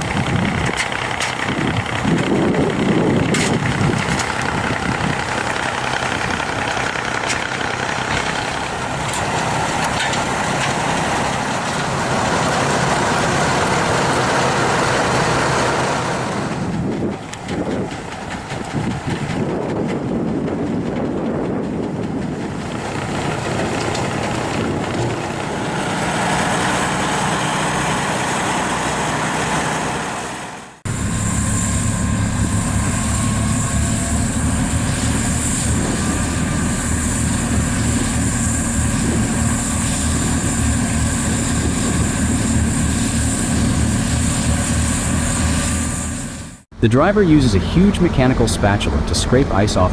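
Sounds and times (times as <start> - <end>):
engine running with hum and hiss: 0.0 - 49.9
machinery rushing noise: 0.0 - 49.9.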